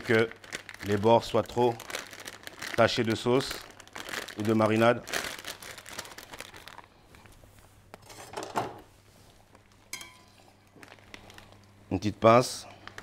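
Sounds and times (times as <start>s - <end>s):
plastic bag crinkling: 0.0s - 8.1s, 10.5s - 13.0s.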